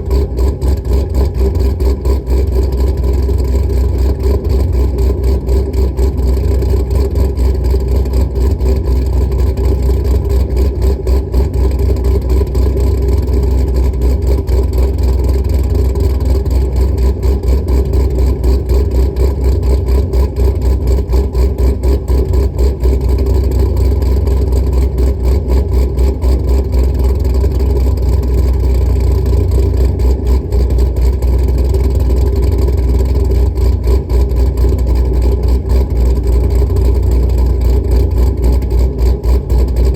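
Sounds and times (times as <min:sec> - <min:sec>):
car engine idling loudly: 0:00.0 - 0:39.9.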